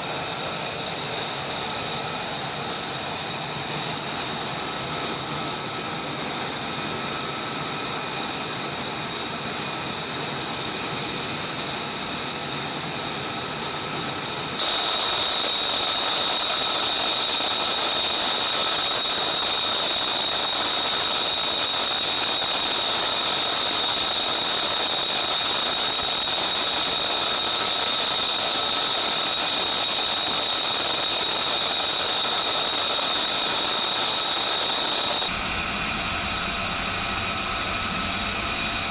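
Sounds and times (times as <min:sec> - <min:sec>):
jet engine high whine: 0:00.0 - 0:38.9
jet engine roaring: 0:00.0 - 0:38.9.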